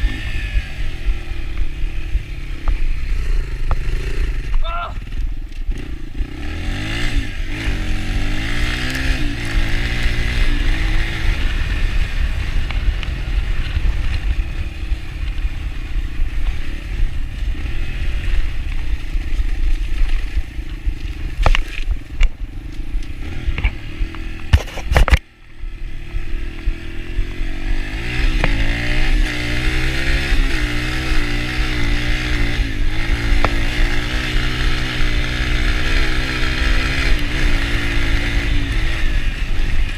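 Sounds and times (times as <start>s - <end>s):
dirt bike engine revving: 0.0s - 19.6s, 20.2s - 39.9s.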